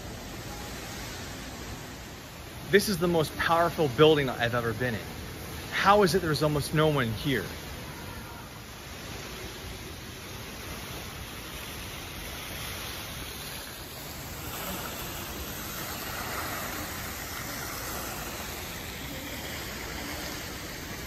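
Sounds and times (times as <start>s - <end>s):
fountain water splashing into basin: 0.0s - 21.0s.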